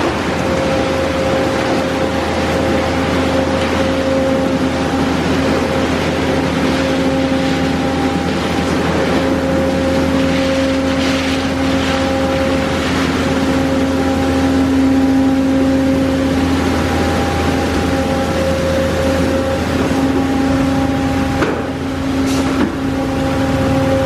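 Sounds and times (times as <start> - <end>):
car wash machine hum: 0.0 - 24.0.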